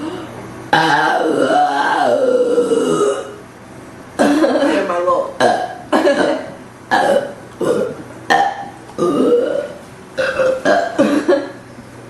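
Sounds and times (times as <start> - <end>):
woman burping: 0.0 - 3.4, 4.2 - 11.6.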